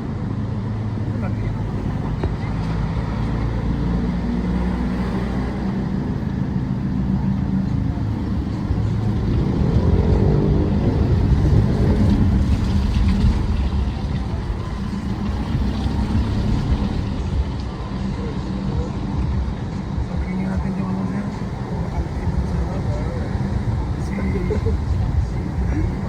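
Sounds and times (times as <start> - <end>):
road and wind noise: 0.0 - 26.0
vehicle engine running: 0.0 - 26.0.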